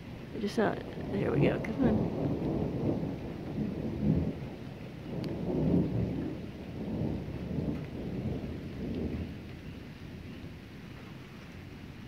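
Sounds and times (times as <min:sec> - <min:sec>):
steady rain falling: 0:00.0 - 0:12.0
thunder rumbling: 0:00.0 - 0:12.0.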